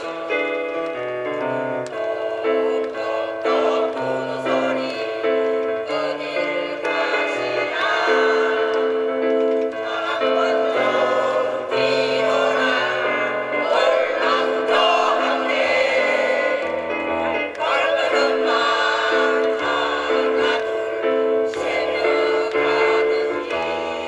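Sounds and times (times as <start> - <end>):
choir singing in harmony: 0.0 - 24.0.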